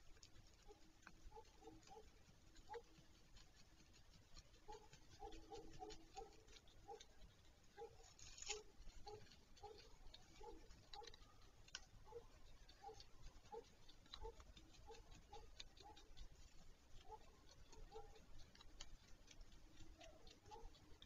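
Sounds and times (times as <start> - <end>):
light ticks: 0.0 - 21.0.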